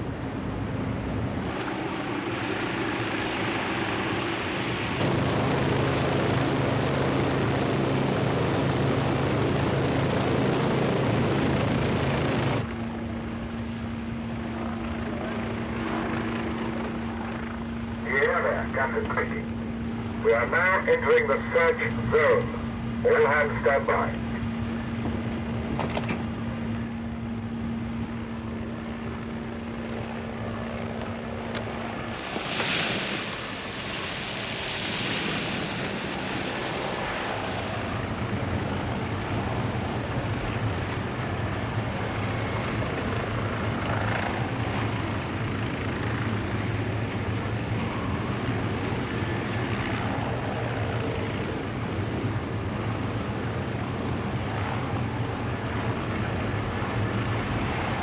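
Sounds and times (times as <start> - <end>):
aircraft engine droning: 0.0 - 58.0.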